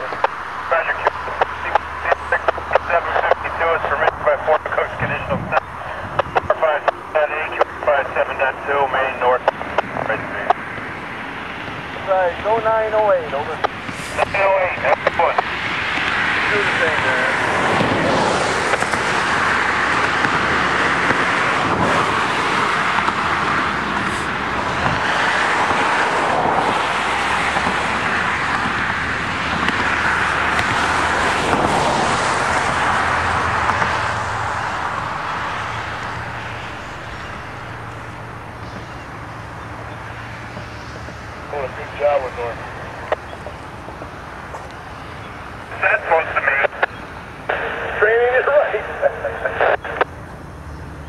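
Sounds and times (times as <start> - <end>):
diesel locomotive hum: 0.0 - 51.0.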